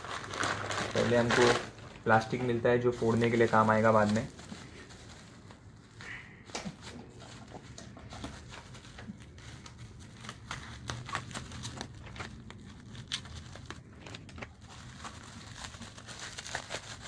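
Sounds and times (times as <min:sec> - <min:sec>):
bubble wrap crackling: 0:00.0 - 0:17.0.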